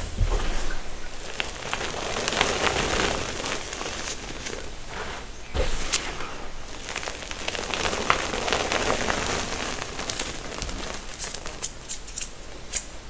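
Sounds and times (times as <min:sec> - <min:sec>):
hands crushing chalk: 0:00.0 - 0:12.9.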